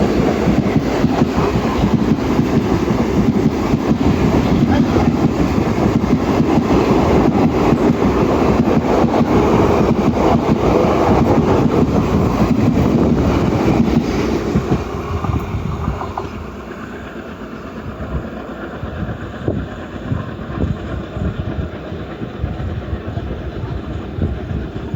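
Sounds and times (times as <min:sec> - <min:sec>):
train wheels clattering over rails: 0:00.0 - 0:24.9.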